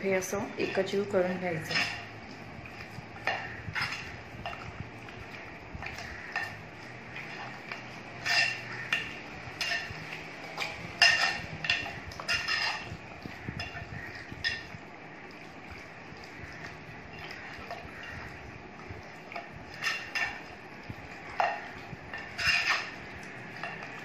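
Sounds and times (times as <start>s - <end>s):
hand mixing meat in steel bowl: 0.0s - 24.0s.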